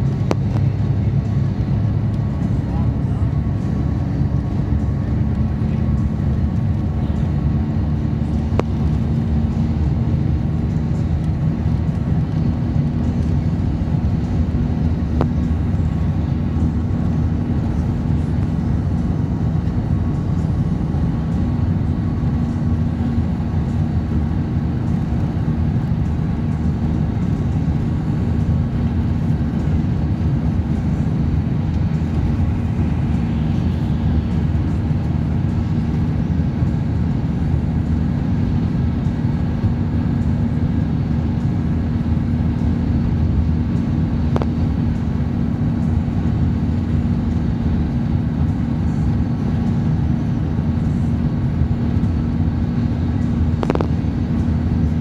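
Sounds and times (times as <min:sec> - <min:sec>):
bus engine drone and road noise: 0:00.0 - 0:55.0.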